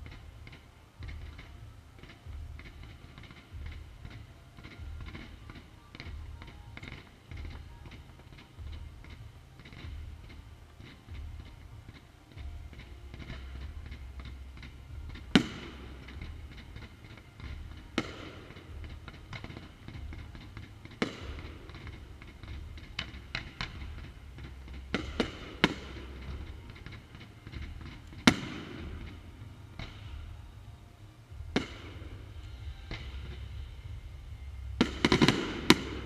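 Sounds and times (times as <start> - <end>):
firework crackles: 0.0 - 36.0
firework shells bursting: 0.0 - 36.0.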